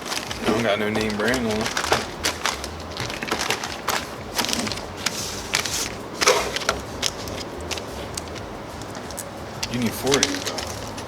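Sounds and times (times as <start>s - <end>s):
small parts clicking and clinking: 0.0s - 11.0s.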